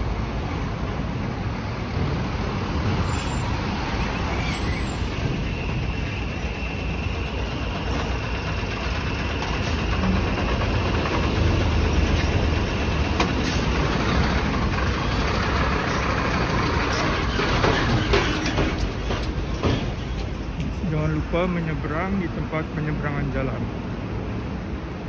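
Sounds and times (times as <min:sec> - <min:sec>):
diesel truck engine rumbling: 0:00.0 - 0:23.8.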